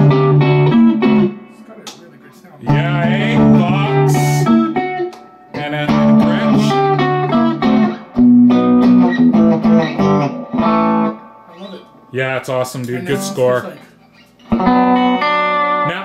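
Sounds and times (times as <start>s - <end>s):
electric guitar through amplifier: 0.0s - 16.0s.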